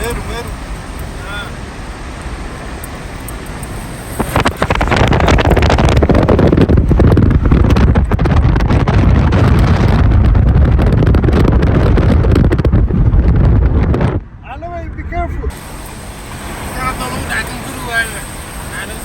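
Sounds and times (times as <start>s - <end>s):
wind buffeting microphone: 0.0s - 18.7s
low rumble: 1.8s - 18.0s.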